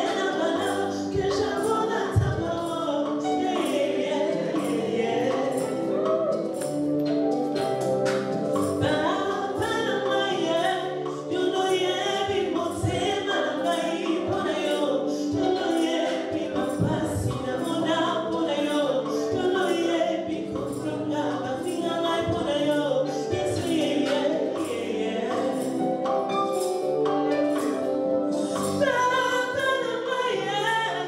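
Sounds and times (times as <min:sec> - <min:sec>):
steady percussive beat: 0:00.0 - 0:29.7
congregation singing gospel song: 0:00.0 - 0:31.0.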